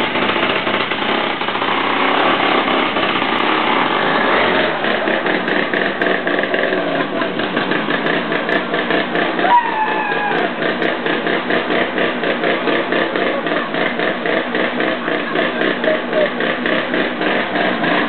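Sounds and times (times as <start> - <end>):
chainsaw running: 0.0 - 18.0.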